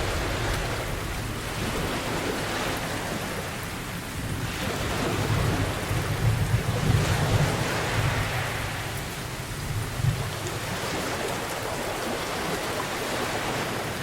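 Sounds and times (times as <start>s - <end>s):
low rolling thunder: 0.0s - 11.5s
steady rain: 0.0s - 14.0s.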